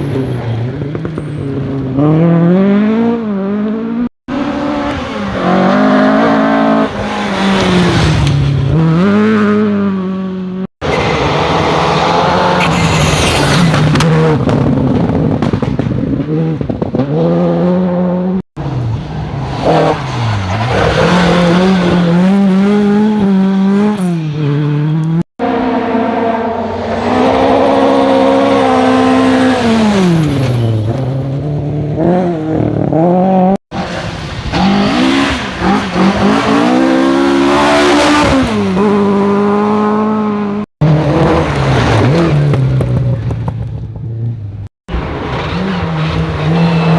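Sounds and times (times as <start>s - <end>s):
rally car engines revving hard: 0.0s - 44.1s, 44.9s - 46.9s.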